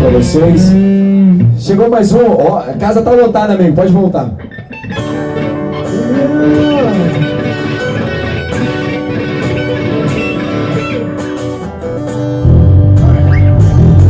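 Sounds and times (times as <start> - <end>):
bass line: 0.0 - 1.9, 4.2 - 14.0
slow guitar with bent notes: 0.0 - 14.0.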